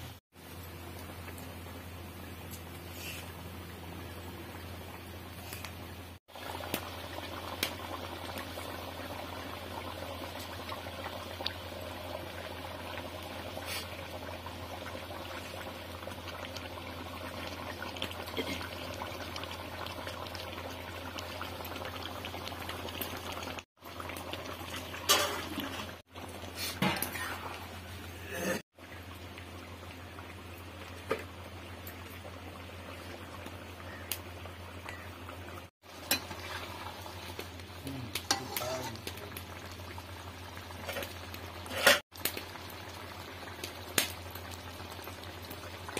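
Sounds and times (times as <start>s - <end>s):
curry bubbling: 0.4s - 45.9s.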